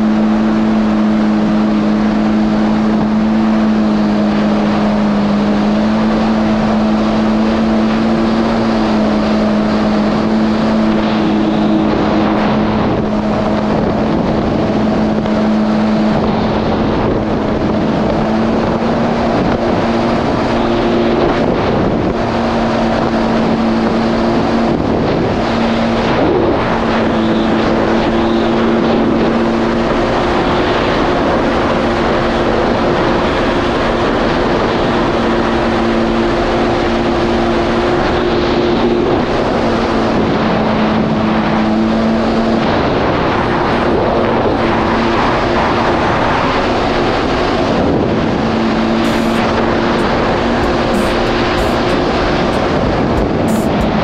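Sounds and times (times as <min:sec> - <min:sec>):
jet ski engine droning: 0:00.0 - 0:54.0
wind and water rushing: 0:00.0 - 0:54.0.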